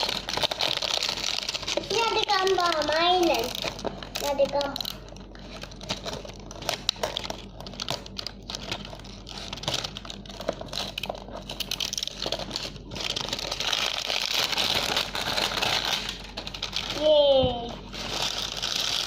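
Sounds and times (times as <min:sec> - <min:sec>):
packaging rustle: 0:00.0 - 0:19.0
snack packaging crinkling: 0:00.0 - 0:19.0.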